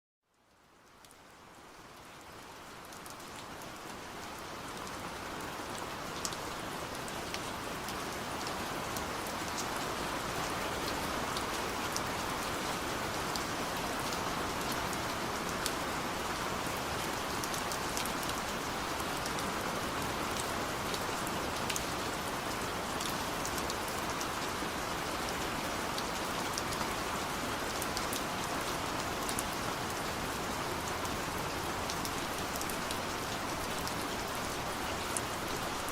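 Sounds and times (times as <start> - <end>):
steady rain falling: 0.2 - 35.9
rain drops ticking: 0.3 - 35.9.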